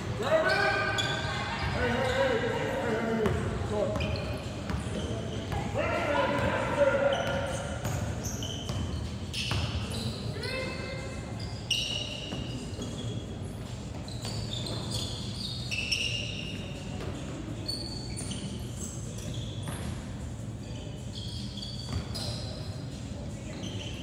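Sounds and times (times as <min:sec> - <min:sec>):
sneaker squeaks: 0:00.0 - 0:24.0.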